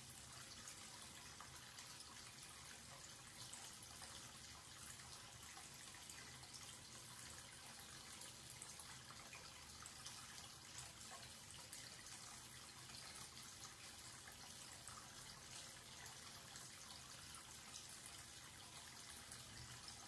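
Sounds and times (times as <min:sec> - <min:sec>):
tap water running into basin: 0:00.0 - 0:20.0.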